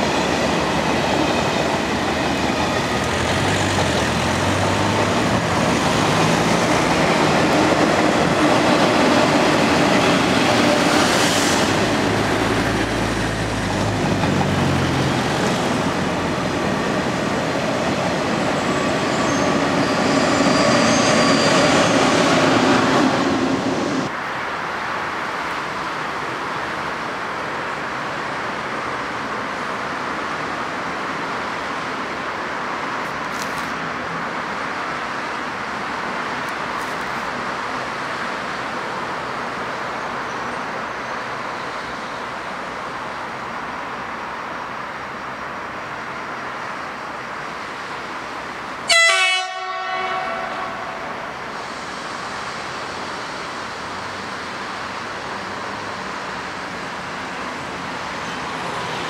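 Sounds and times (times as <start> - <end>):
city traffic rumble: 0.0 - 59.0
high-speed train rolling past: 0.0 - 59.0.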